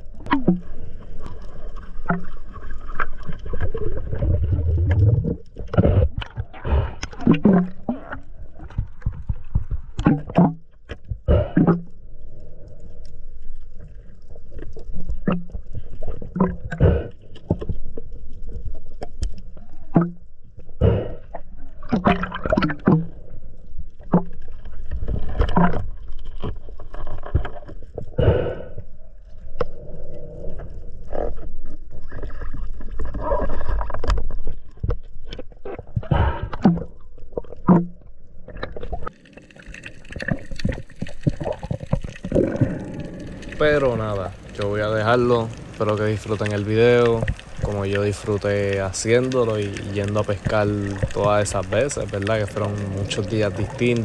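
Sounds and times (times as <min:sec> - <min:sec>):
water gurgling underwater: 0:00.0 - 0:12.5, 0:13.6 - 0:54.0.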